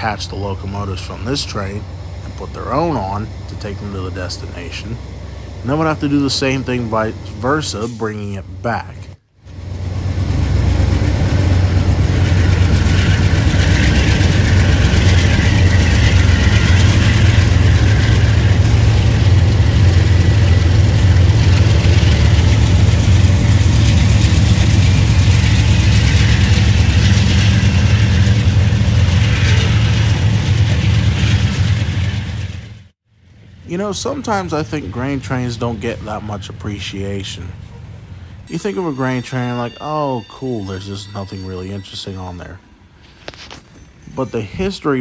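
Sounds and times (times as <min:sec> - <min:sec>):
diesel locomotive engines droning: 0:00.0 - 0:45.0.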